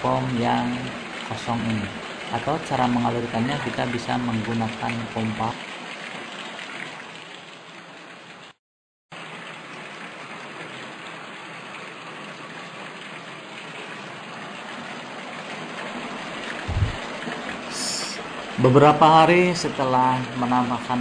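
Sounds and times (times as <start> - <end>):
water pouring into a tub: 0.0 - 8.4, 9.1 - 21.0.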